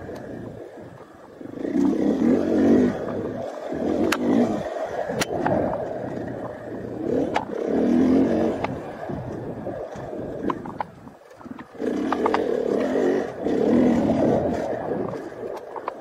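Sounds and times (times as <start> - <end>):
sharp ticks: 0.0 - 16.0
motorcycle engine pulling hard: 1.4 - 16.0.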